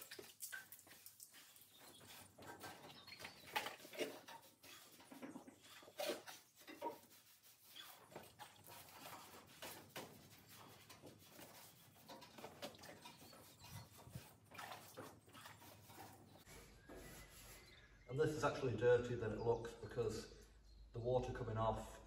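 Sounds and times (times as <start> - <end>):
wet sponge scrubbing steel: 0.0 - 17.7.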